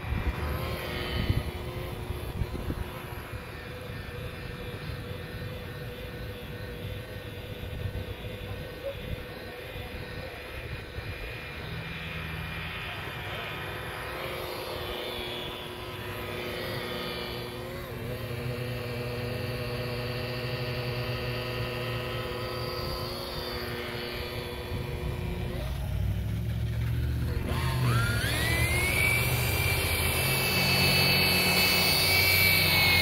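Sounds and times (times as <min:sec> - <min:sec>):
rotary buffer motor whine: 0:00.0 - 0:33.0.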